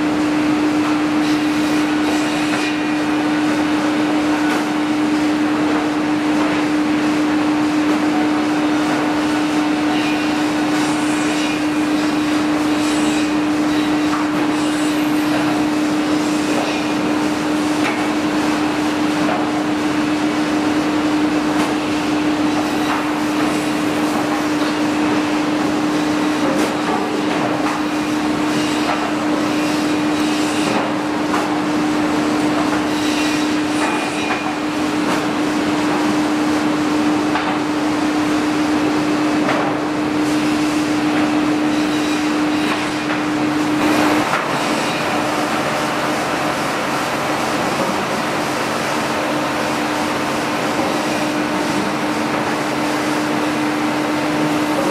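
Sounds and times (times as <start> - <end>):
steady machine hum: 0.0 - 54.9.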